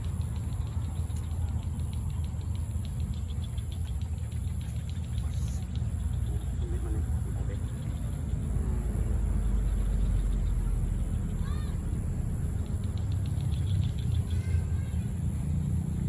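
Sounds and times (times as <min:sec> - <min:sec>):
faint fast ticking: 0:00.0 - 0:16.0
road traffic rumble: 0:00.0 - 0:16.0.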